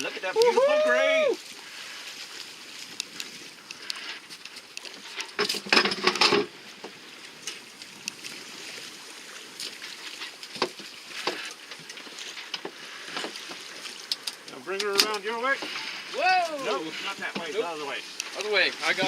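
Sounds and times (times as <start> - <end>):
water lapping around boat: 0.0 - 19.0.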